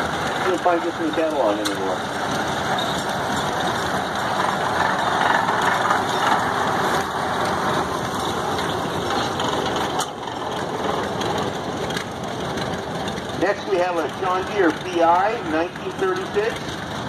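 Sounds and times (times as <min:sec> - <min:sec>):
tractor engine driving past: 0:00.0 - 0:17.0.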